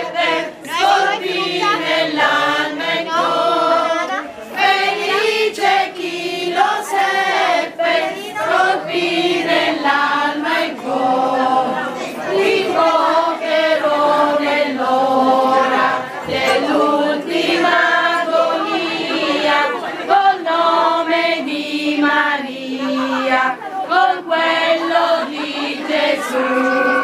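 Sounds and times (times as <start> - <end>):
group singing unaccompanied: 0.0 - 27.0.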